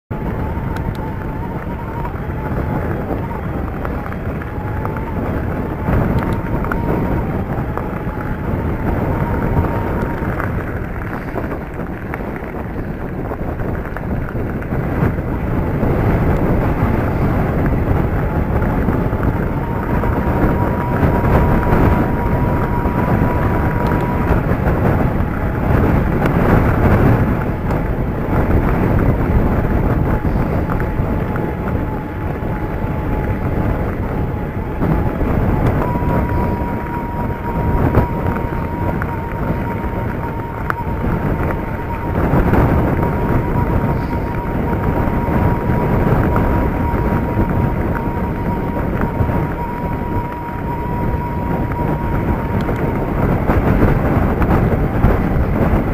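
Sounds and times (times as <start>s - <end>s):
faint steady whine: 0.1s - 55.9s
wind buffeting microphone: 0.1s - 55.9s
bike tyres crunching on gravel: 0.2s - 51.1s.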